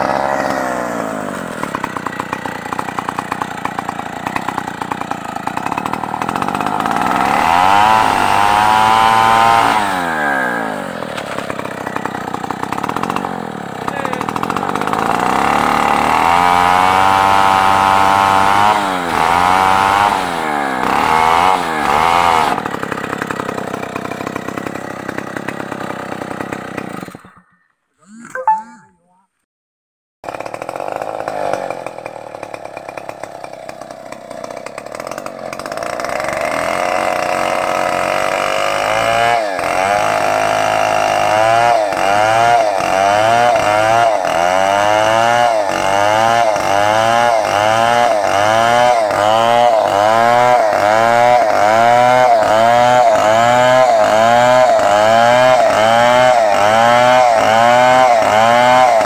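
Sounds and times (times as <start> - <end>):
chainsaw cutting wood: 0.0 - 27.7, 30.2 - 59.0.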